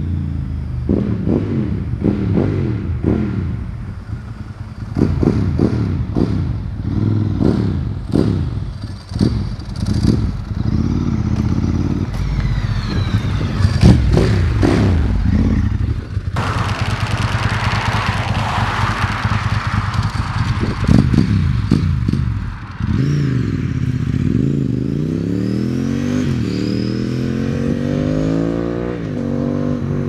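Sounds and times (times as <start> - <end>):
motorcycle accelerating: 0.0 - 30.0
motorcycle engine revving: 0.0 - 30.0.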